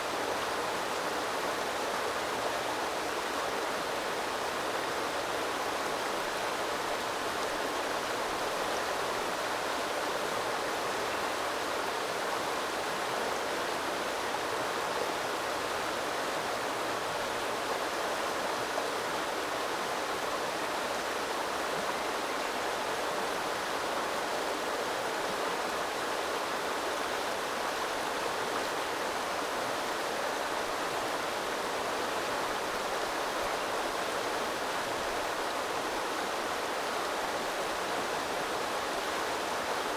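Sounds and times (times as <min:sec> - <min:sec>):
small river flowing: 0:00.0 - 0:39.9.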